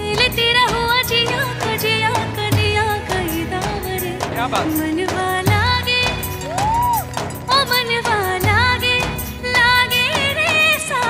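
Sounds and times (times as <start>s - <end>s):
instrumental backing with beat: 0.0s - 11.0s.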